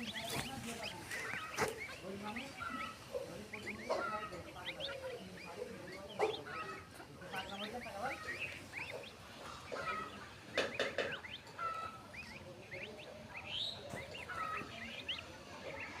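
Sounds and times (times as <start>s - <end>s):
harsh swan calls: 0.0s - 16.0s
swans peeping chirps: 0.0s - 16.0s.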